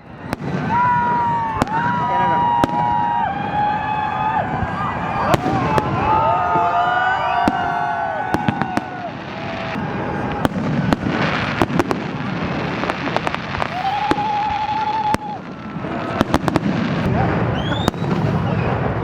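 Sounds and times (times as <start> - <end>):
fireworks bangs and crackles: 0.0 - 19.0
fireworks whistling: 0.0 - 19.0.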